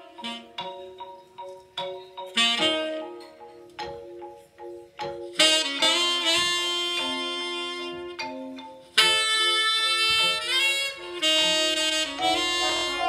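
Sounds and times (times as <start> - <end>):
instrumental music on loudspeakers: 0.0 - 13.0.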